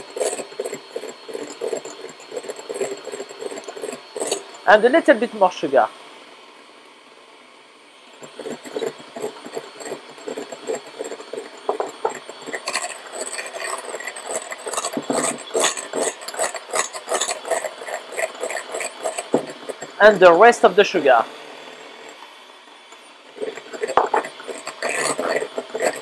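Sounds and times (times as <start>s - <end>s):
beaters scraping glass bowl: 0.0s - 5.7s, 8.1s - 22.2s, 22.9s - 26.0s
electric hand mixer whisking: 0.0s - 26.0s.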